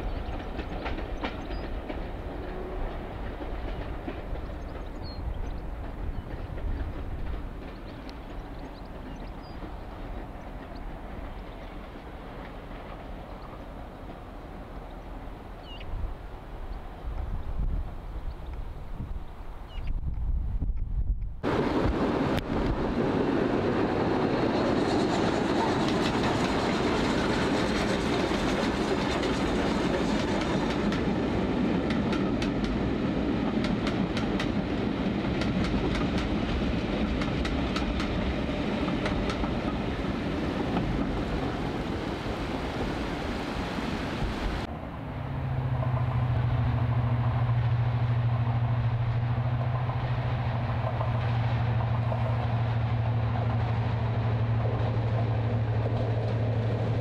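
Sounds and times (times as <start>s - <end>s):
train wheels clacking on bridge: 0.0s - 14.6s, 21.4s - 42.2s, 45.6s - 57.0s
diesel locomotive engine drone: 0.0s - 57.0s.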